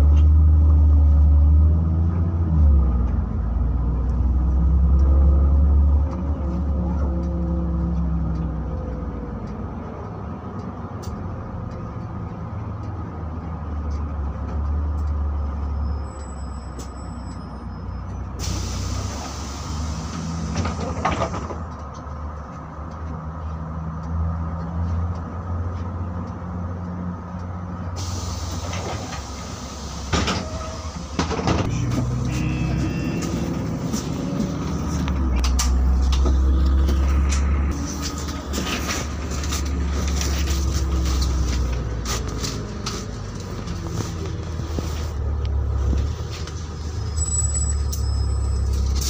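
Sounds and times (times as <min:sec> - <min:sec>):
bus engine droning: 0:00.0 - 0:49.0.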